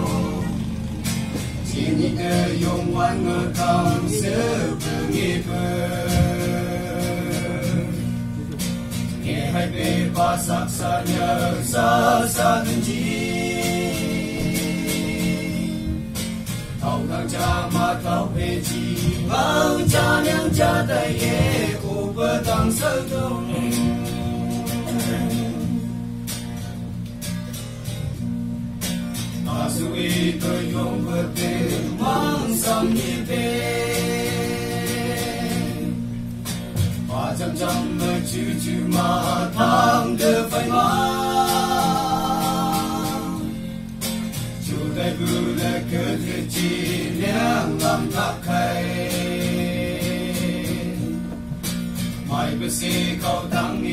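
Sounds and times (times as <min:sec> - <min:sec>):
young men singing together: 0:00.0 - 0:26.1, 0:29.3 - 0:53.9.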